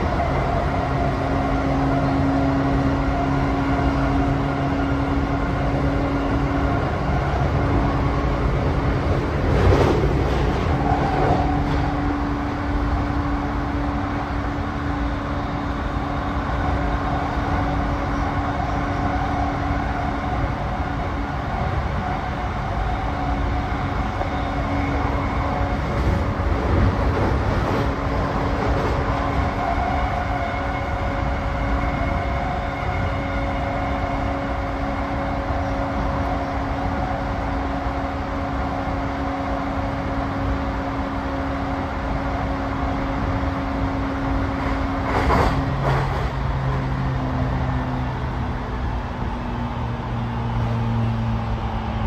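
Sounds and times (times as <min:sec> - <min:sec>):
constant train hum: 0:00.0 - 0:52.0
train wheels rumbling on rail: 0:00.0 - 0:52.0.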